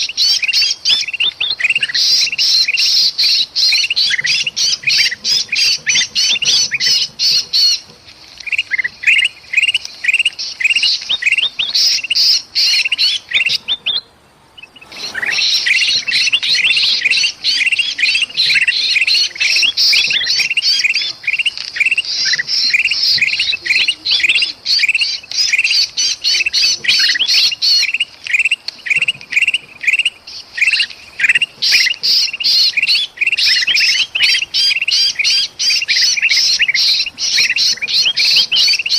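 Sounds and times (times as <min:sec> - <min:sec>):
birds chattering and squawking: 0:00.0 - 0:38.9.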